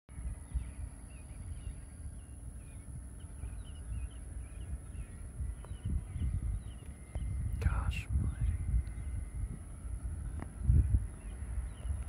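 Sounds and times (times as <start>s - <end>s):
high-pitched whine: 0.1s - 12.0s
small birds chirping: 0.1s - 12.0s
uneven low rumble: 0.1s - 12.0s.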